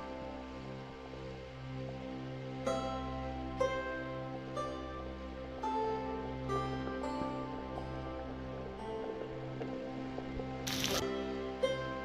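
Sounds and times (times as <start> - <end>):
slow new-age music: 0.0 - 12.0.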